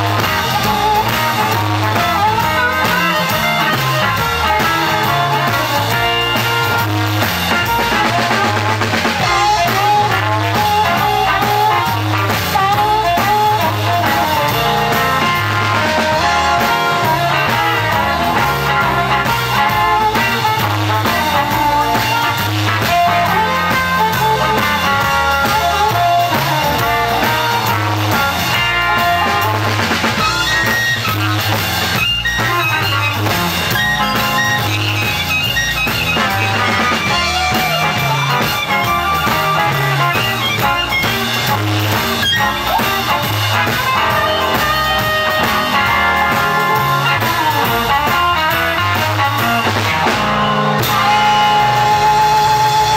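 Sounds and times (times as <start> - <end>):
bass line: 0.0 - 52.9
drum kit: 0.0 - 52.9
electric guitars: 0.0 - 52.9
harmonica wailing: 0.0 - 52.9.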